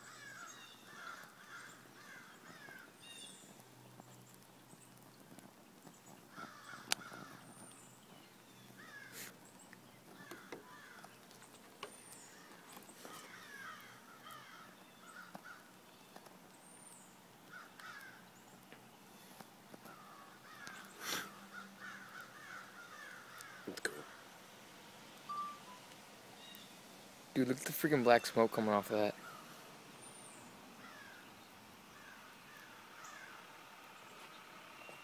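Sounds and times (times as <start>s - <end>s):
faint bird calls: 0.0s - 24.4s, 25.2s - 26.8s, 29.1s - 35.0s.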